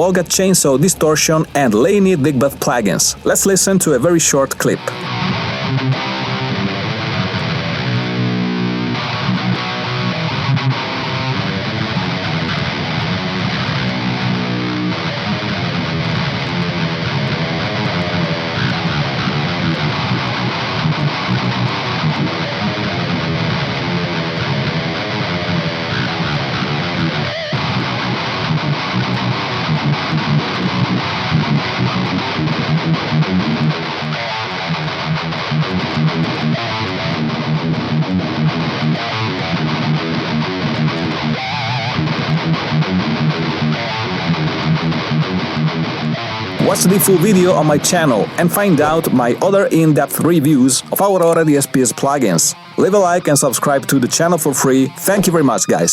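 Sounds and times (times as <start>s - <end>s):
distorted electric guitar riff: 0.0s - 55.9s.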